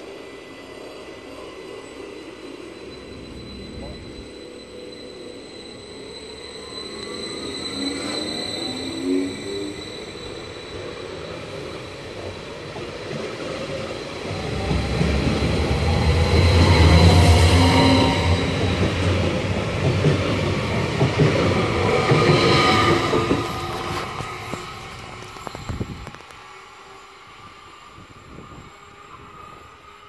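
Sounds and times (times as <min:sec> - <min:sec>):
train running past: 0:00.0 - 0:30.0
high wheel squeal: 0:01.3 - 0:26.3.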